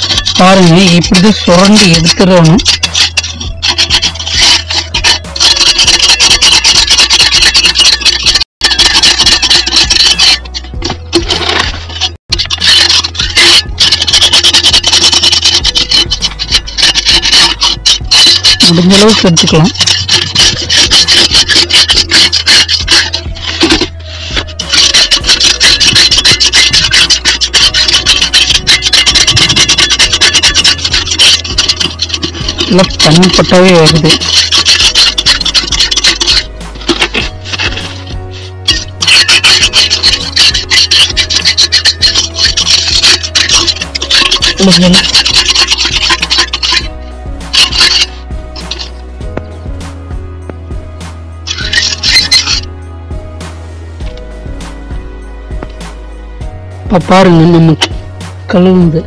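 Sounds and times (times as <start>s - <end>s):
tool rasping on limescale: 0.0s - 52.7s
scale scraping inside metal tank: 0.0s - 56.0s.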